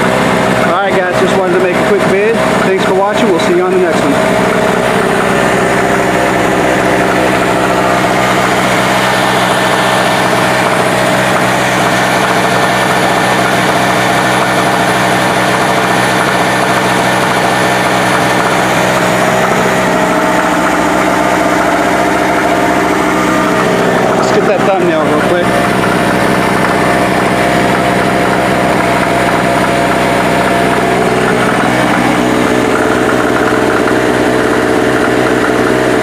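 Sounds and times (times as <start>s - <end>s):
portable generator running: 0.0s - 36.0s.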